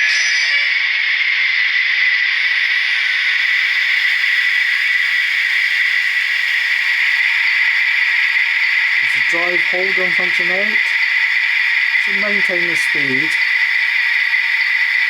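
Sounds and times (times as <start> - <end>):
model locomotive idling hiss: 2.4 - 15.0.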